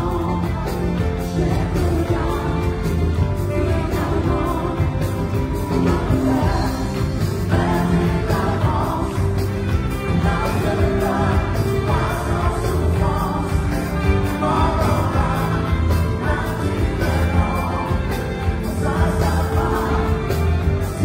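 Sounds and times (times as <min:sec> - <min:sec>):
drums: 0:00.0 - 0:21.0
electric guitar: 0:00.0 - 0:21.0
keyboard: 0:00.0 - 0:21.0
person singing: 0:00.0 - 0:21.0
pulsing bass: 0:00.0 - 0:21.0.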